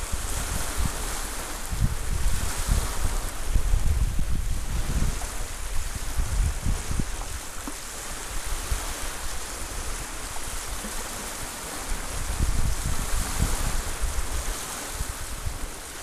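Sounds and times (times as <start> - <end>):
waves lapping on shore: 0.0 - 16.0
wind buffeting microphone: 0.0 - 16.0.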